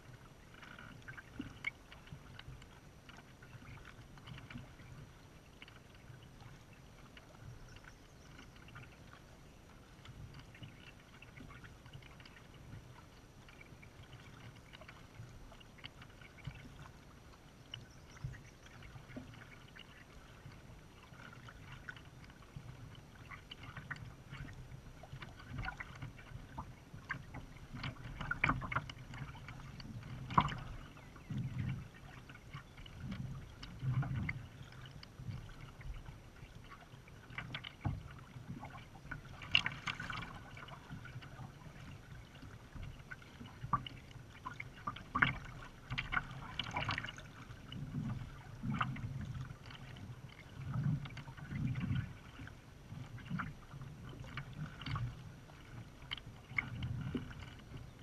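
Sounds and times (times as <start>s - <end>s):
paddle stroke splashes: 0.0s - 58.0s
water lapping around kayak hull: 0.0s - 58.0s.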